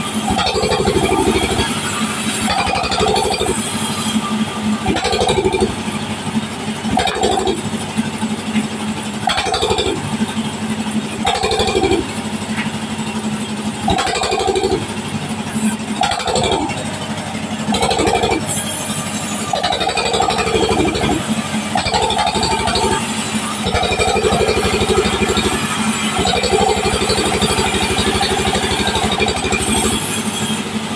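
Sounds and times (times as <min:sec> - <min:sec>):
band saw cutting a log: 0:00.0 - 0:30.9.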